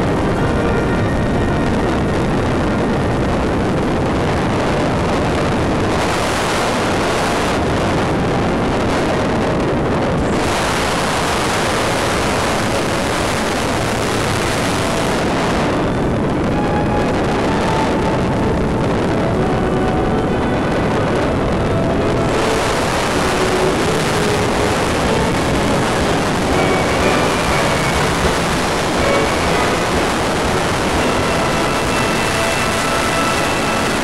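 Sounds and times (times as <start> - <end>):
faint steady tones: 0.0 - 34.0
rushing wind noise on microphone: 0.0 - 34.0.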